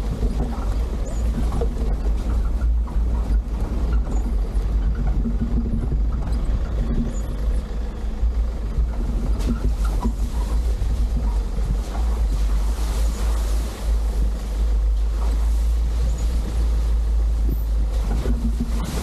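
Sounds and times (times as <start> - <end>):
suv driving on rough trail: 0.0 - 19.0.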